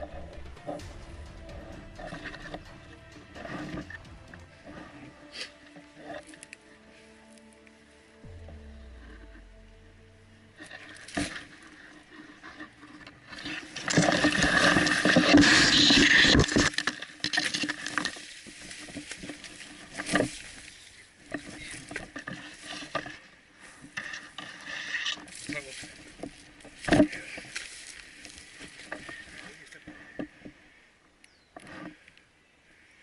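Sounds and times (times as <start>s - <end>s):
rustling through brush: 0.0s - 30.8s.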